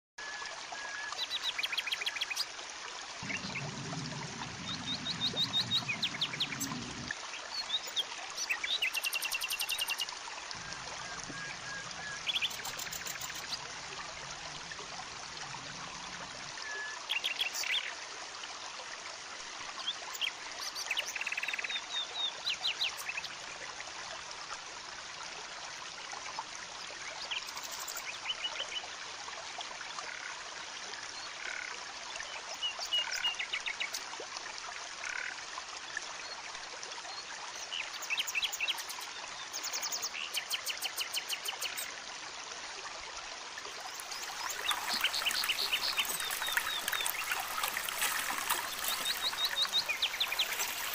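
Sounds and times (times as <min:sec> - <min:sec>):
stream trickling over rocks: 0:00.2 - 0:50.9.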